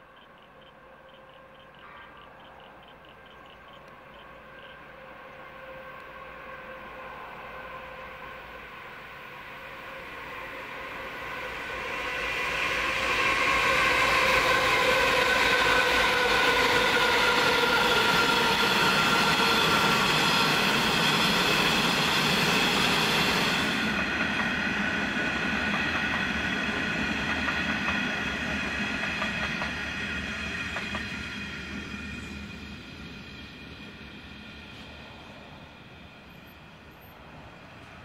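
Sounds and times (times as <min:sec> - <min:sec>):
diesel locomotive passing: 0:00.0 - 0:38.0
train wheels rumbling on rails: 0:00.0 - 0:38.0.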